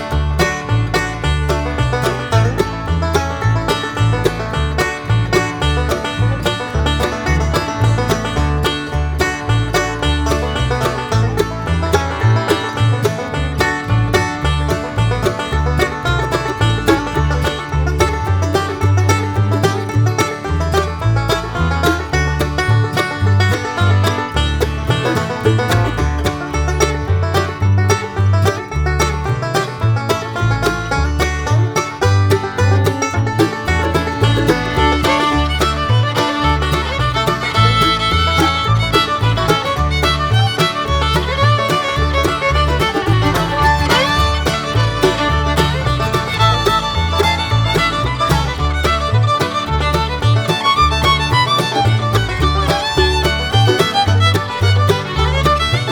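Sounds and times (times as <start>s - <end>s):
bluegrass music with banjo and fiddle: 0.0s - 55.9s.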